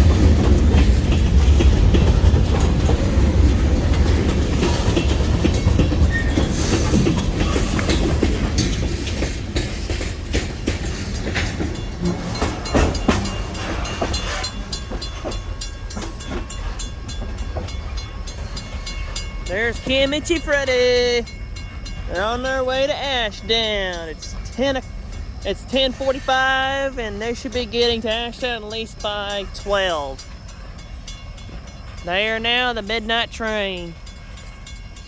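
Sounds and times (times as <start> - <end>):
freight train rumble: 0.0 - 35.0
train wheels clicking over rail joints: 0.0 - 35.0.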